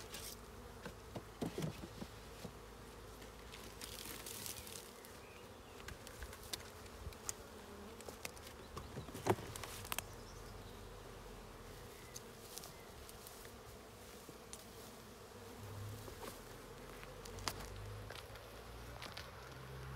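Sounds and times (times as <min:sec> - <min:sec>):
honeybees buzzing: 0:00.0 - 0:19.9.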